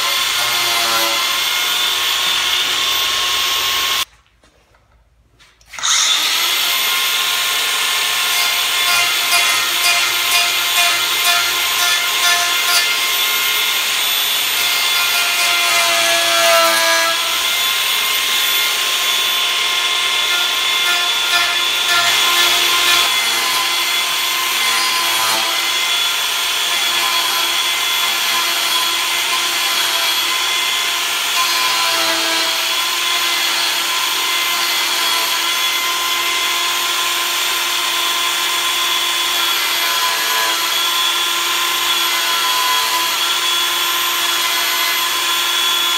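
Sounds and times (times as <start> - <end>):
angle grinder grinding wood: 0.0 - 4.1, 5.7 - 45.9.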